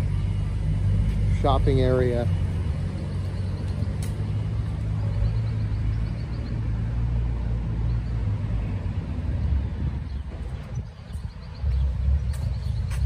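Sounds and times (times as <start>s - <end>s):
traffic rumble on a street: 0.0s - 13.0s.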